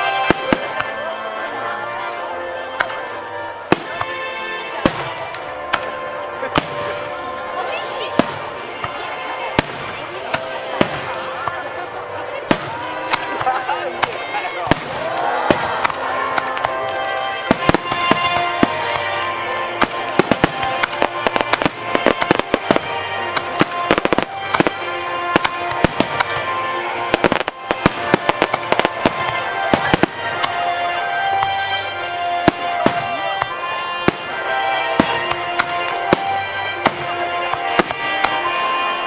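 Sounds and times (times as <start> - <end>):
fireworks bursting and crackling: 0.0 - 39.0
music playing: 0.0 - 39.0.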